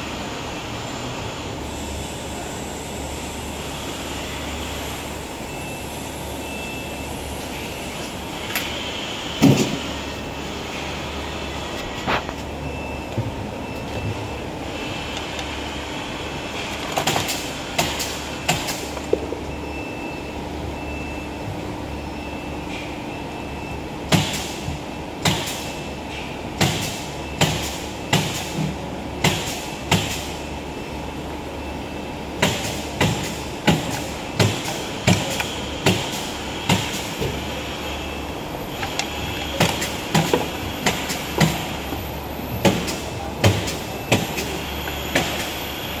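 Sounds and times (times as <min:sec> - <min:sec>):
factory machinery humming: 0:00.0 - 0:46.0.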